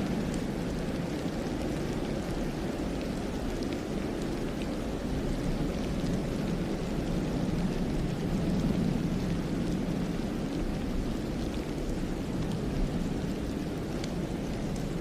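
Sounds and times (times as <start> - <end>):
wind blowing through pine trees: 0.0 - 15.0.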